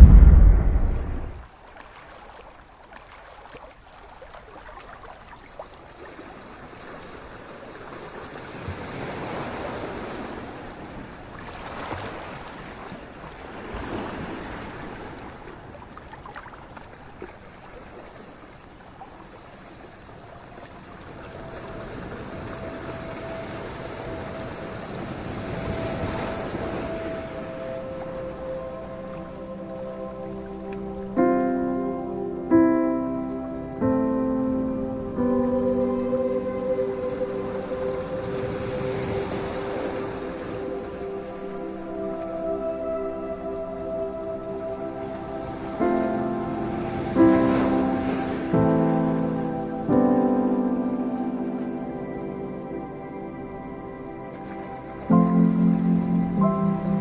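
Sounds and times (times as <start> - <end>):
sea waves breaking on beach: 0.0 - 31.2, 35.2 - 52.0.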